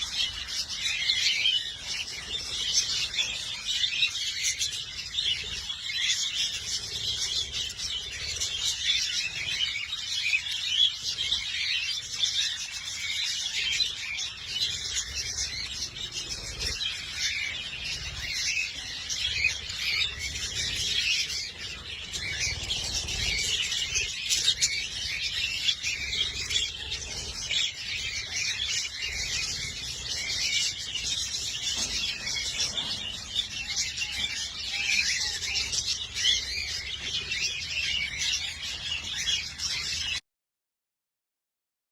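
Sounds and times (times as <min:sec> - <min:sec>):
parrots chirping: 0:00.0 - 0:40.2.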